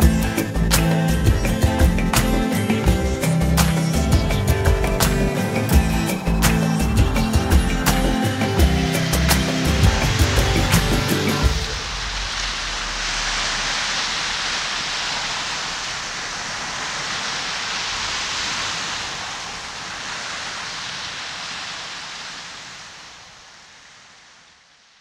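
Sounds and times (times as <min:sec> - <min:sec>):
shore ambience hiss: 0:00.0 - 0:25.0.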